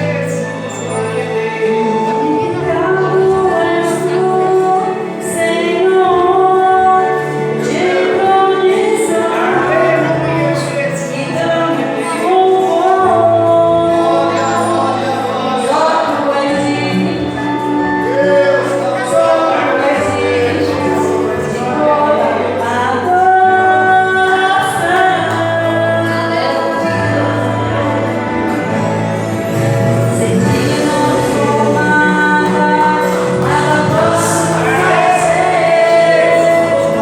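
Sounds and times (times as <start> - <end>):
women singing: 0.0 - 37.0
worship band playing: 0.0 - 37.0.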